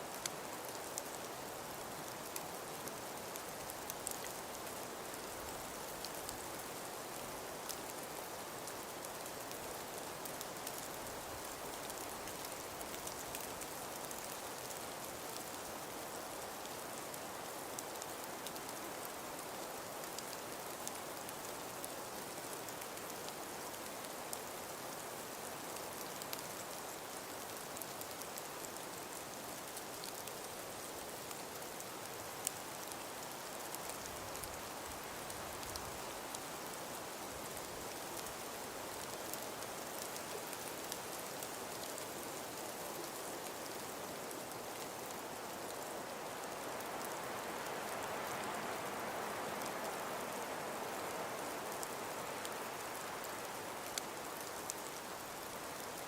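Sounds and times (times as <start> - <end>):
wind and falling snow hiss: 0.0 - 56.0.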